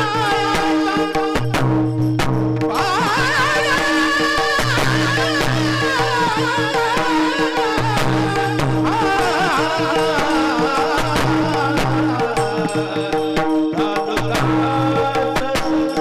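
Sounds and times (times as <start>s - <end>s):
sharp percussion strokes: 0.0s - 16.0s.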